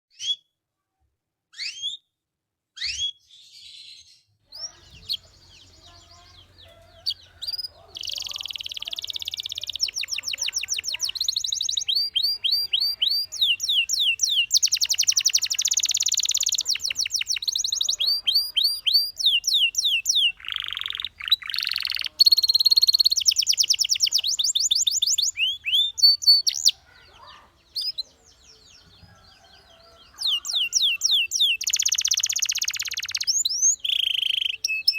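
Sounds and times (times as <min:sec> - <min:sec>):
canary singing trills: 0:01.5 - 0:02.0, 0:02.8 - 0:34.9.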